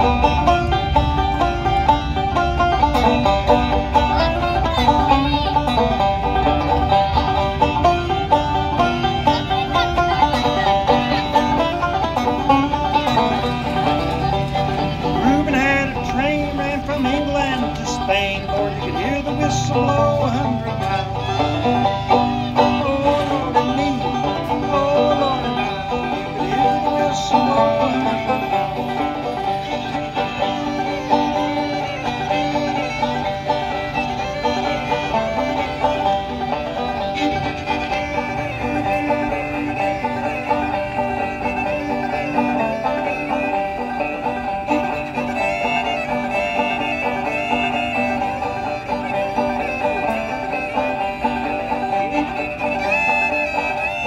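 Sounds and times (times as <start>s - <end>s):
banjo picking: 0.0s - 54.0s
fiddle melody: 0.0s - 54.0s.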